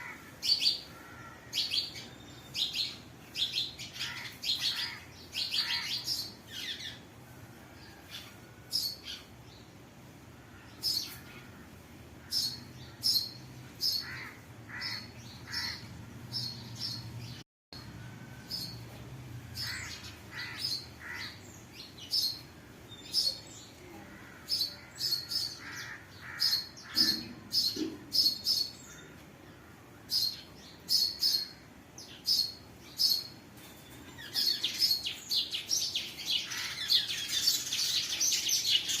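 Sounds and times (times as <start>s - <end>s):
birds chirping: 7.8s - 39.0s.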